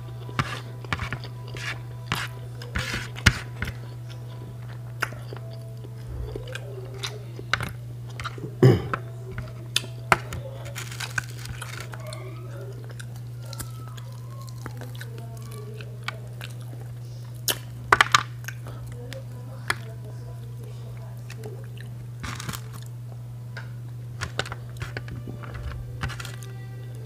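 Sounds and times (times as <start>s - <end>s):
person chewing food: 0.0s - 27.0s
steady hum: 0.0s - 27.0s.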